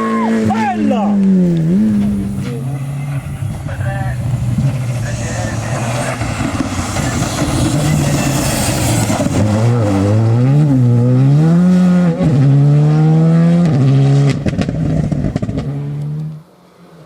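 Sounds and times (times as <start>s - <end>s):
rally car engine at full throttle: 0.0s - 17.0s.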